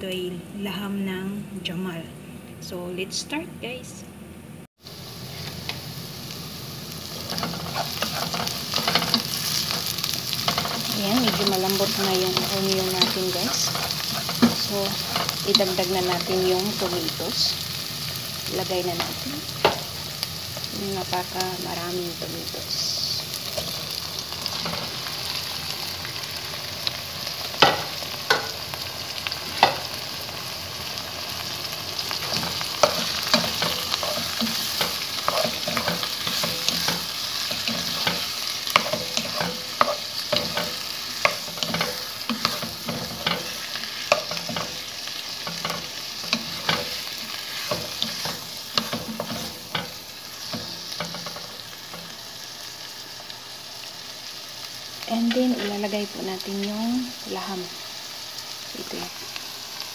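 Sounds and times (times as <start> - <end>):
vegetables sizzling in oil: 4.8 - 59.9.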